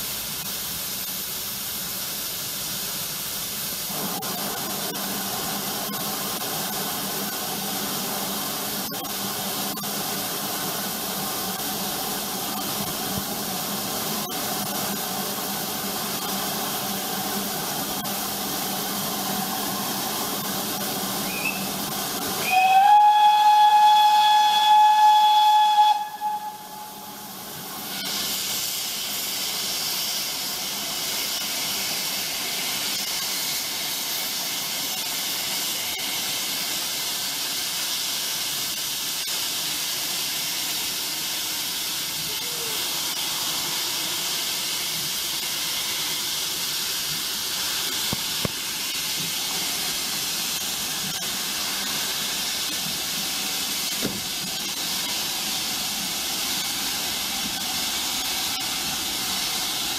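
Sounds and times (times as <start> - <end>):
steam locomotive hissing steam: 0.0 - 59.9.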